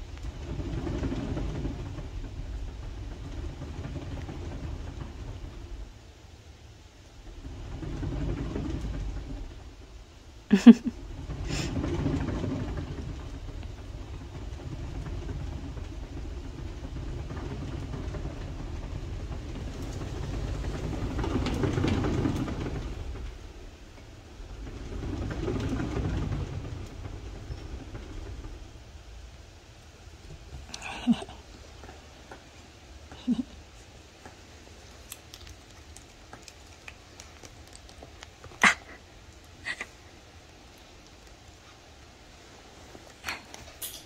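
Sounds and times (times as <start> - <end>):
cat exercise wheel rumbling: 0.0 - 44.0.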